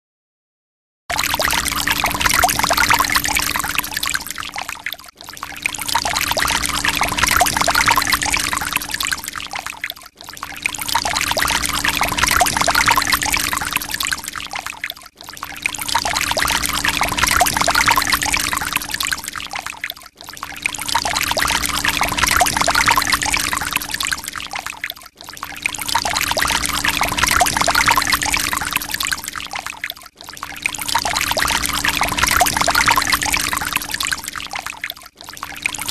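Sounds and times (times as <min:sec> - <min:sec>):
water pouring: 0:01.1 - 0:35.9.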